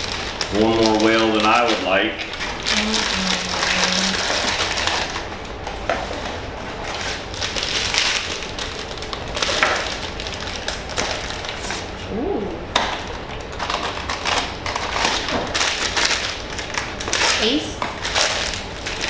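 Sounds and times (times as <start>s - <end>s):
cardboard packaging rustling: 0.0s - 12.1s, 13.0s - 19.0s.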